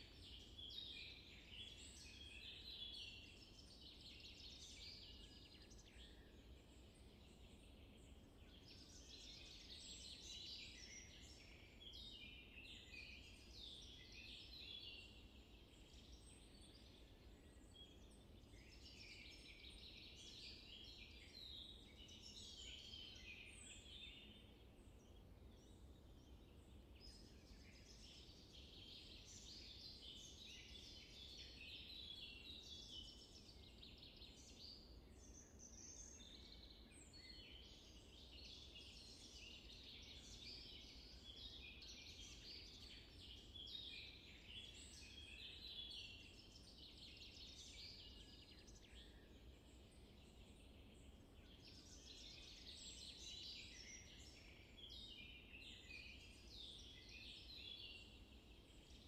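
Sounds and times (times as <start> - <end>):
birds chirping in chorus: 0.1 - 59.0.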